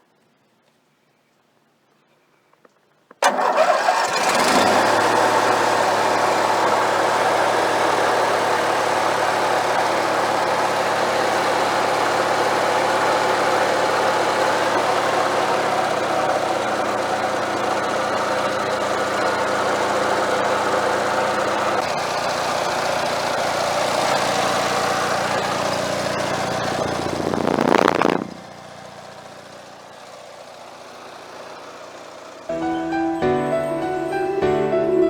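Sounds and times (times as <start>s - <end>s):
engine starting and idling: 3.2s - 32.8s.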